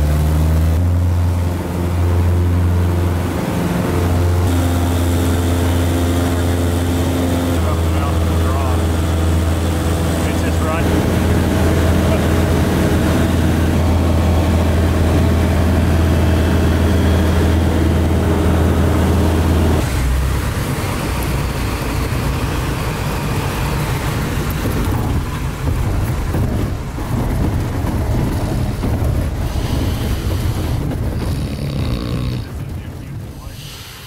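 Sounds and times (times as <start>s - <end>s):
propeller plane engine droning: 0.0s - 34.0s
rough pulsing engine: 0.0s - 34.0s.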